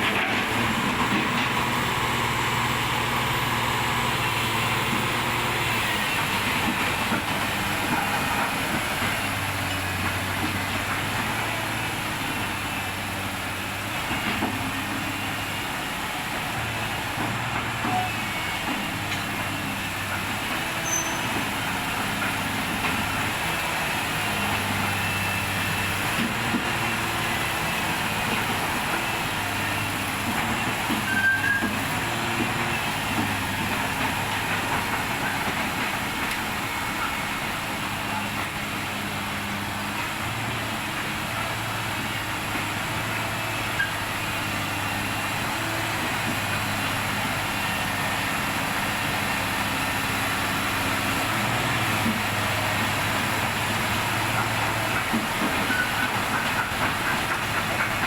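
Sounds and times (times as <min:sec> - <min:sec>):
large engine running steadily: 0:00.0 - 0:58.0.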